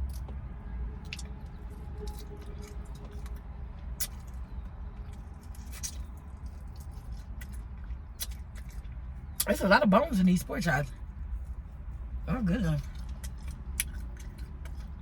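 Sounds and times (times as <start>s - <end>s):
mouth clicks and smacks chewing: 0.0s - 9.6s, 12.5s - 15.0s
steady low hum: 0.0s - 15.0s.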